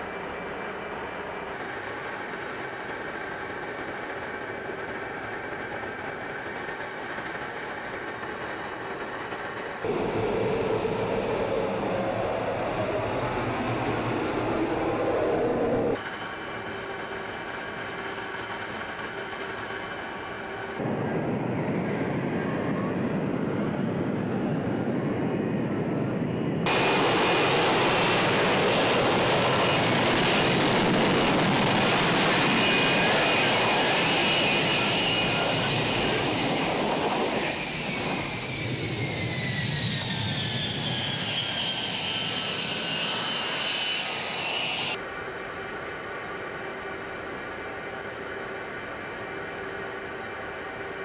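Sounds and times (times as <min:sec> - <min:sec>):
jet engine with high whine: 0:00.0 - 0:51.0.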